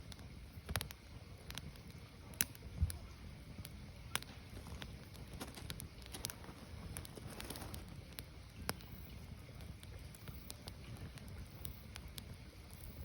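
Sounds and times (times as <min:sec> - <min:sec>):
firewood crackling and popping: 0:00.0 - 0:13.0
low rumble of fire: 0:00.0 - 0:13.0.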